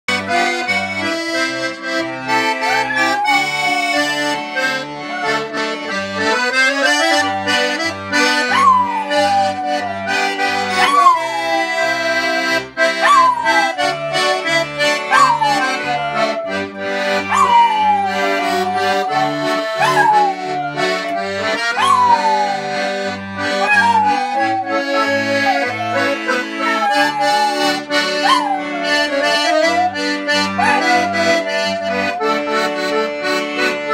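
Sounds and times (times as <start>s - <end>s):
accordion music: 0.0s - 33.9s
dog howling: 2.1s - 5.8s, 6.6s - 12.4s, 13.0s - 22.9s, 23.5s - 32.6s.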